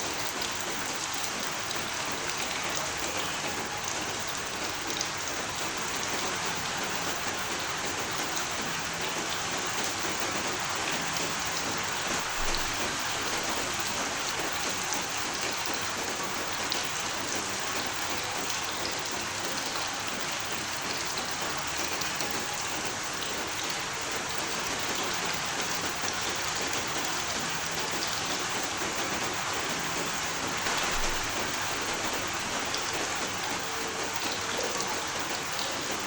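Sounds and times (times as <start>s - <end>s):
heavy rain pattering: 0.0s - 36.0s.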